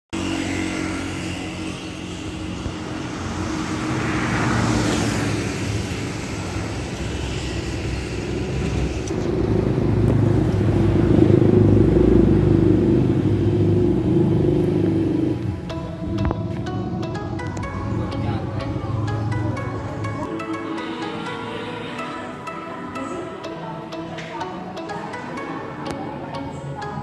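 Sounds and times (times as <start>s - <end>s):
vehicle engines running: 0.2s - 27.0s
vehicle passing: 0.2s - 27.0s.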